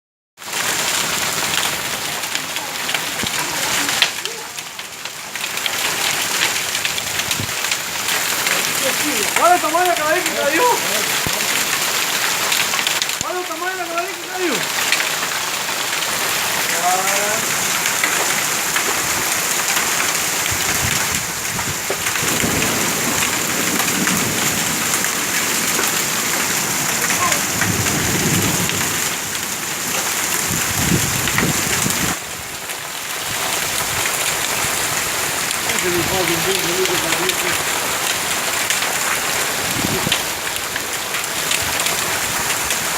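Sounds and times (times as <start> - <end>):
hail hissing: 0.4 - 42.9
hailstones clicking: 0.4 - 42.9.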